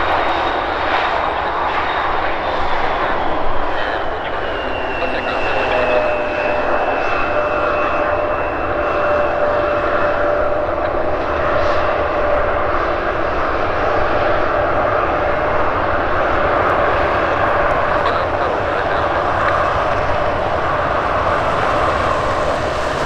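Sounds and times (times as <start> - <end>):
high jet engine whine: 0.0 - 23.0
jet engines running: 0.0 - 23.0.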